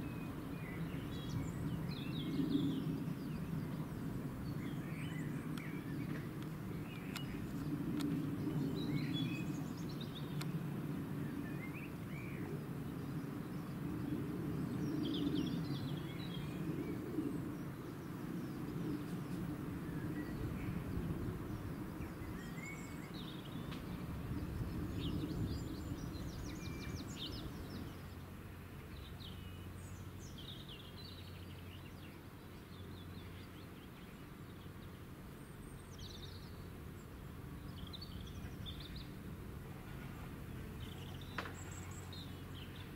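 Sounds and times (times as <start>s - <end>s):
birds chirping: 0.0s - 42.9s
steady low hum: 0.0s - 42.9s.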